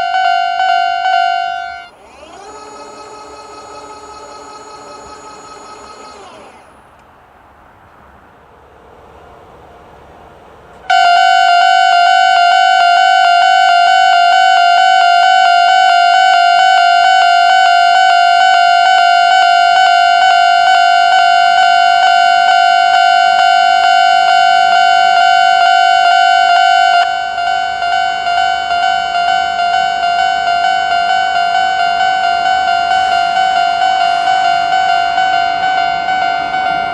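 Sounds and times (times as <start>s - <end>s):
level crossing warning bell: 0.0s - 1.9s, 2.6s - 6.7s, 9.5s - 36.9s.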